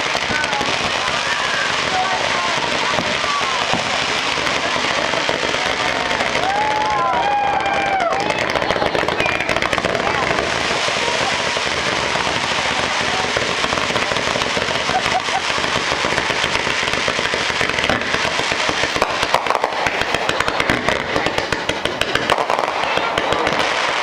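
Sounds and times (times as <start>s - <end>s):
fireworks hissing and crackling: 0.0s - 24.0s
fireworks popping: 0.0s - 24.0s.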